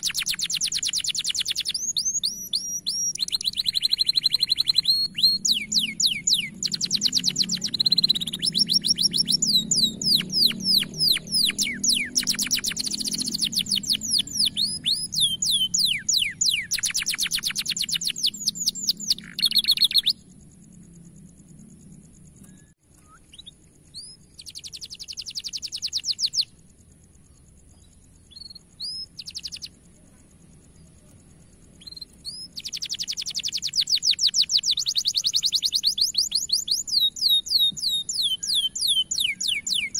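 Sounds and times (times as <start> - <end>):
canary singing trills: 0.0 - 20.6, 22.4 - 39.9.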